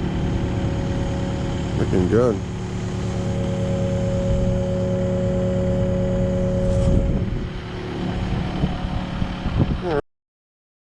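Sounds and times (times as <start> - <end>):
diesel engine running: 0.0 - 10.0
steady whine: 0.0 - 10.0.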